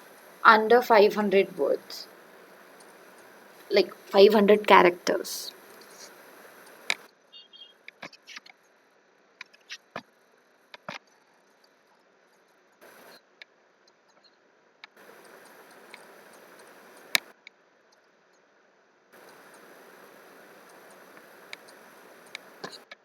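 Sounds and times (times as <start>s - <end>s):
faint hiss: 0.0s - 13.4s, 14.9s - 17.4s, 19.2s - 23.0s.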